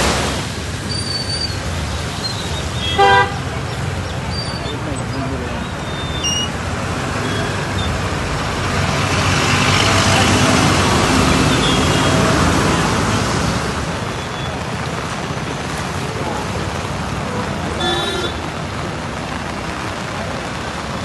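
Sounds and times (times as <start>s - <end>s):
vehicle engine: 0.0s - 21.0s
water rushing under vehicle: 0.0s - 21.0s.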